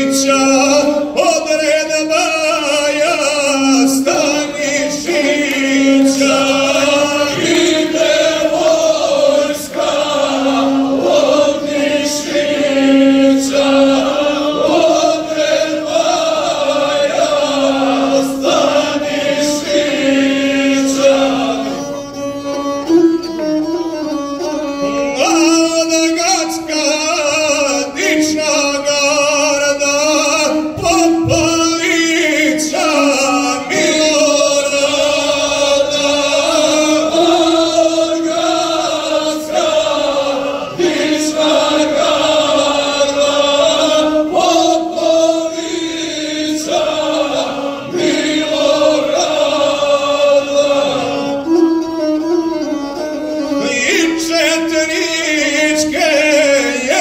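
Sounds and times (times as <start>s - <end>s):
men singing folk song: 0.0s - 21.9s, 25.2s - 51.6s, 53.5s - 57.0s
bowed string instrument: 0.0s - 57.0s.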